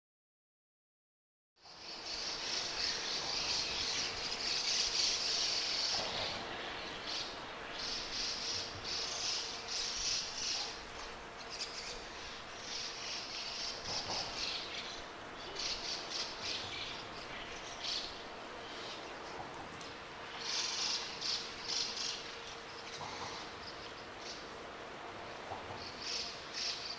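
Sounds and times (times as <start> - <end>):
birds chirping and calling: 1.8 - 19.4, 20.3 - 24.6, 25.6 - 26.9.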